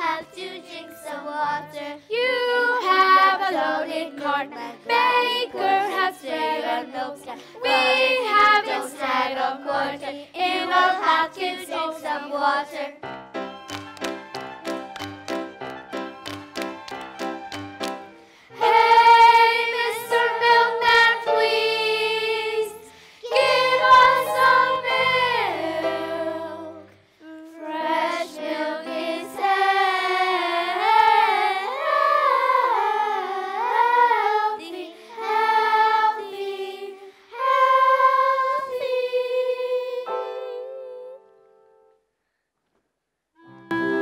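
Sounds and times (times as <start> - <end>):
children's chorus singing: 0.0 - 13.0, 18.6 - 41.2.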